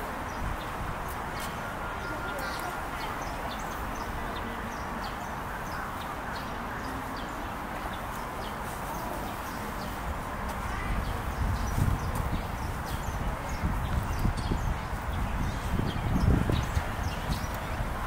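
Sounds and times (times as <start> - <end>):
background noise wash: 0.0 - 18.0
small birds chirping: 0.2 - 18.0.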